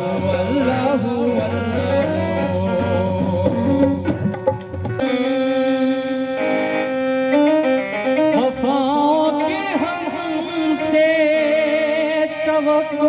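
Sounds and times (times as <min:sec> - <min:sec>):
long held instrumental notes: 0:00.0 - 0:13.0
qawwali music with tabla: 0:00.0 - 0:13.0.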